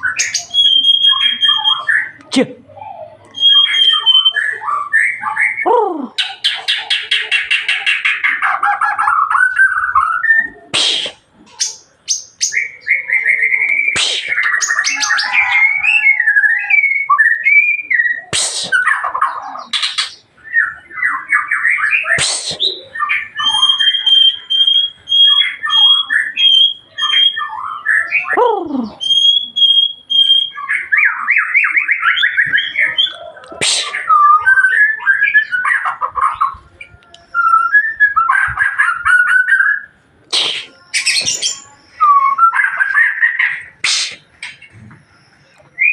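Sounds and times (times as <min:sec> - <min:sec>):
bird singing trills and whistles: 0:00.0 - 0:45.9.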